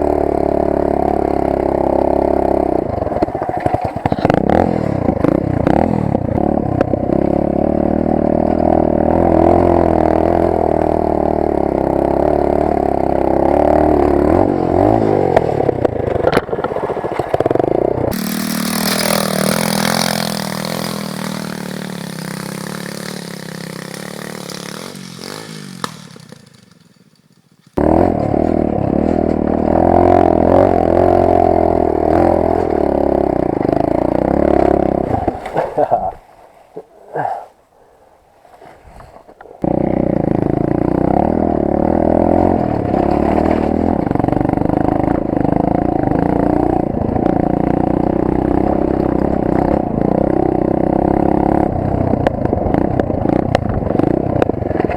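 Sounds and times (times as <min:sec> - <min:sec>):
pit bike engine under load: 0:00.0 - 0:36.1, 0:38.5 - 0:54.9.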